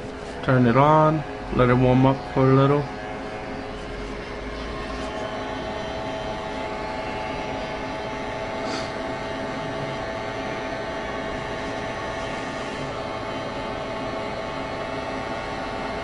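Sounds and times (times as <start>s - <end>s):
heat gun blowing: 2.4s - 16.0s.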